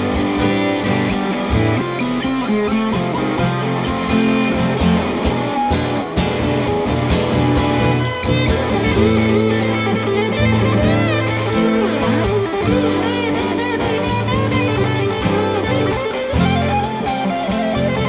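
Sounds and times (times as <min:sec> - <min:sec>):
electric guitar melody: 0:00.0 - 0:18.0
strummed acoustic guitars: 0:00.0 - 0:18.0.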